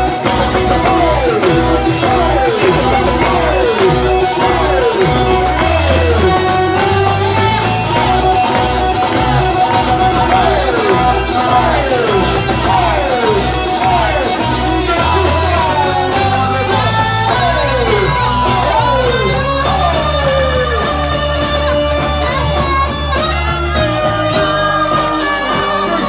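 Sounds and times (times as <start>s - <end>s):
keyboard: 0.0s - 26.0s
saxophone: 0.0s - 26.0s
steady bass line: 0.0s - 26.0s.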